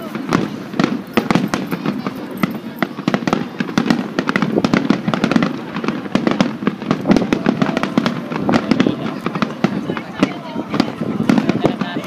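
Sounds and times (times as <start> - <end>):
fireworks cracking and popping: 0.0 - 12.0.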